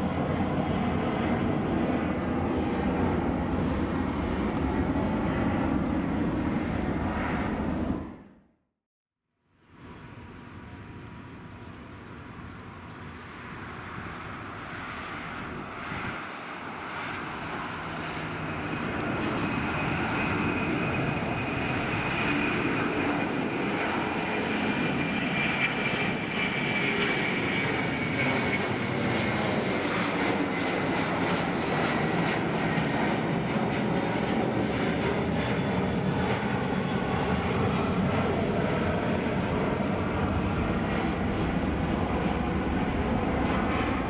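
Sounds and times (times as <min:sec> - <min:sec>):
jet engines roaring: 0:00.0 - 0:08.4, 0:09.7 - 0:44.0
high jet engine whine: 0:00.0 - 0:08.6, 0:09.6 - 0:44.0.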